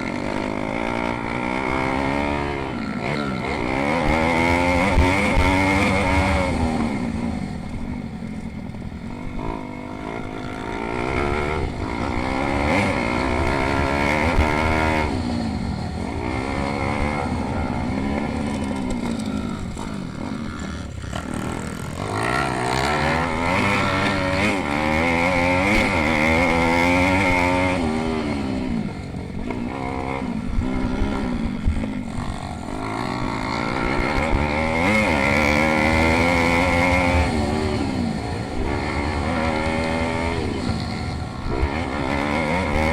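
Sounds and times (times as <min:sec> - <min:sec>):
pit bike engines revving: 0:00.0 - 0:42.9.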